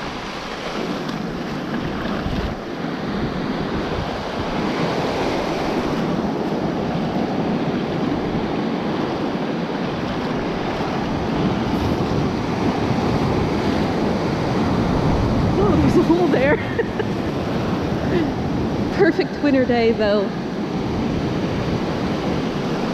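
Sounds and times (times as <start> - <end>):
ocean surf washing: 0.0 - 22.9
wind rumbling on microphone: 0.0 - 22.9.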